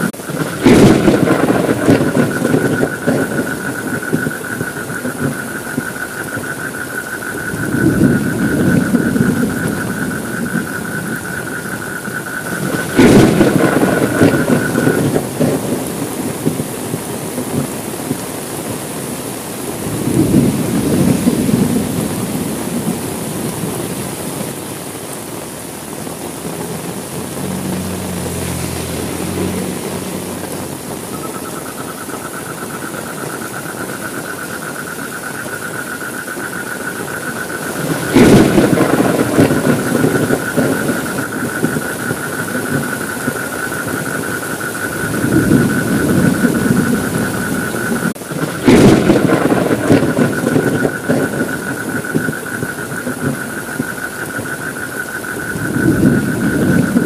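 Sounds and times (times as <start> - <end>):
thunderclaps: 0.0 - 24.7, 25.9 - 57.0
heavy rain: 0.0 - 57.0.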